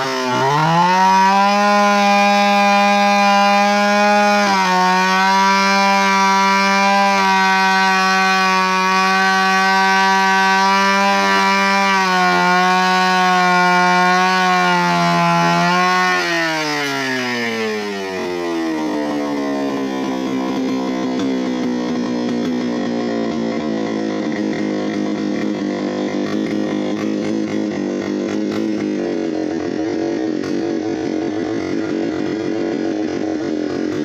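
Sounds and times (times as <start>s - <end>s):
chainsaw engine revving high: 0.0s - 34.0s.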